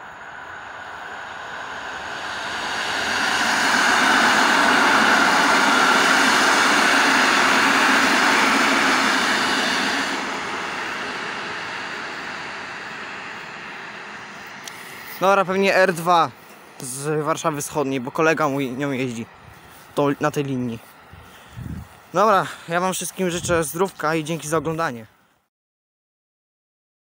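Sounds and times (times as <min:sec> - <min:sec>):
train wheels on rails passing: 0:00.0 - 0:25.1.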